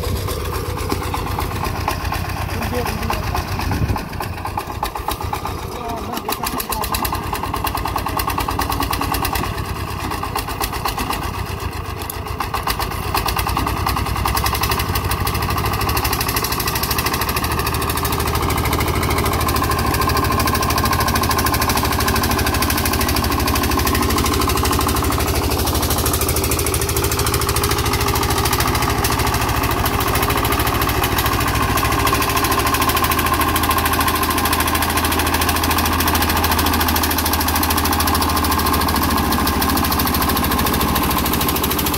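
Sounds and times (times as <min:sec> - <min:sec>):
diesel tractor engine knocking: 0:00.0 - 0:41.9.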